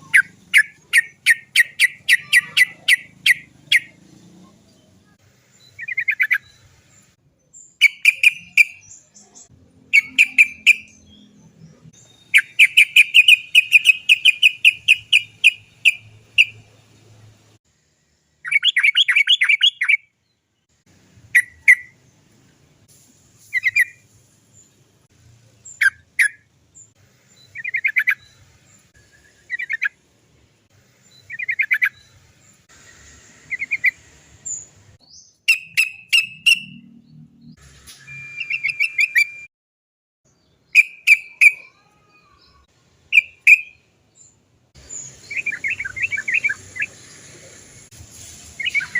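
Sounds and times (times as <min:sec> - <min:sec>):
bird singing rapid notes: 0:00.0 - 0:17.3, 0:18.3 - 0:22.2, 0:25.5 - 0:30.0, 0:31.0 - 0:37.6, 0:40.3 - 0:47.6.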